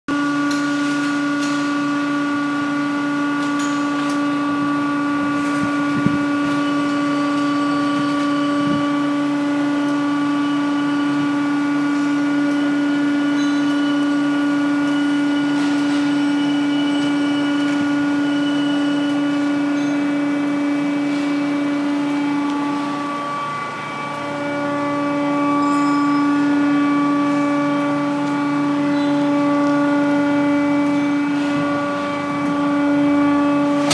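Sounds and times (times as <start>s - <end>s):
tube bending machine humming: 0.1s - 33.9s.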